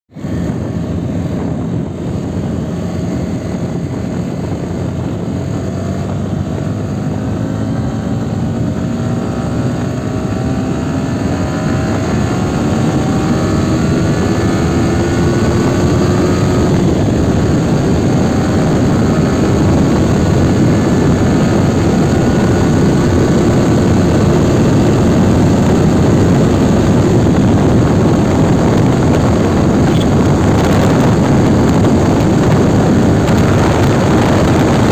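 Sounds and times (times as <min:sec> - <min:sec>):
motorcycle engine accelerating: 0:00.1 - 0:34.9
wind rush over microphone: 0:00.1 - 0:34.9.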